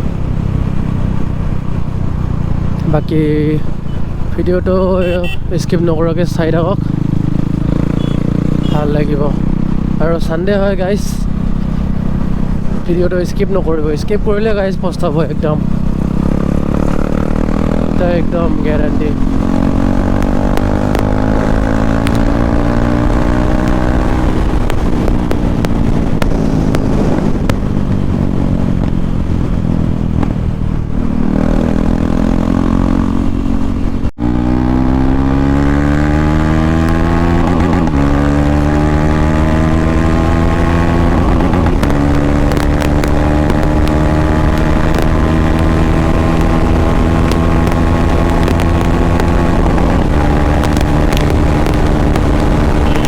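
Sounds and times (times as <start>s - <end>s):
motorcycle engine accelerating: 0.0s - 12.9s, 14.7s - 53.0s.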